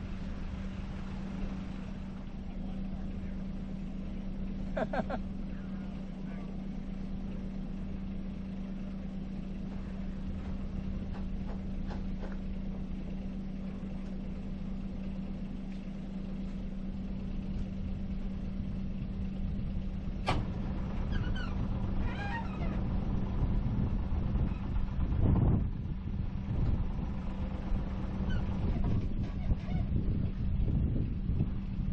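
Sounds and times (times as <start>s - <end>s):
boat engine humming: 0.0s - 31.9s.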